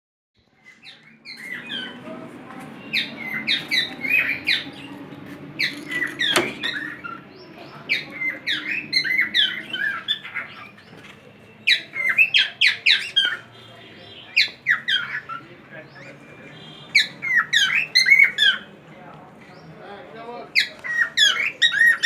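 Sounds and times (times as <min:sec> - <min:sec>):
small birds chirping and squawking: 0:00.4 - 0:18.8, 0:19.4 - 0:22.0.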